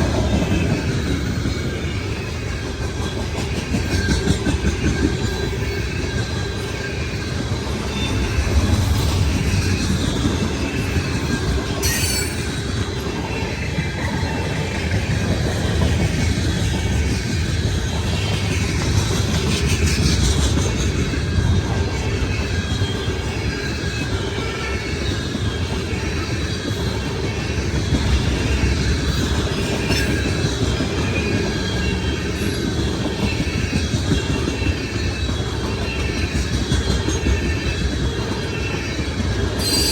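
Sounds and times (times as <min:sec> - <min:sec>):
squealing train wheels: 0:00.0 - 0:39.9
train wheels rumbling on rail: 0:00.0 - 0:39.9.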